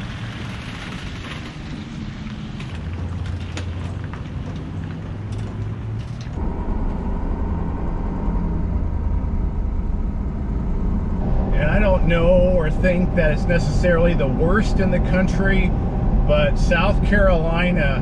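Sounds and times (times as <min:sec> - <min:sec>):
engine and road drone in cab: 0:00.0 - 0:18.0
pickup truck pulling away: 0:00.0 - 0:18.0.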